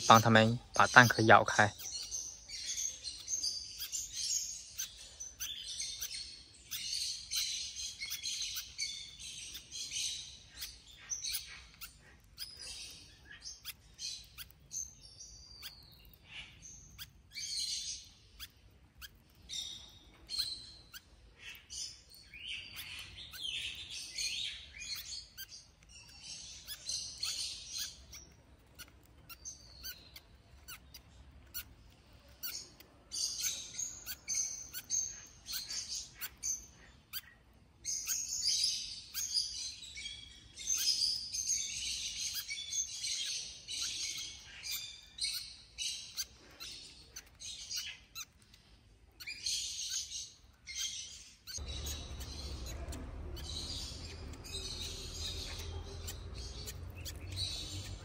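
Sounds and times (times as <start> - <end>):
lovebirds chirping and chattering: 0.0 - 58.0.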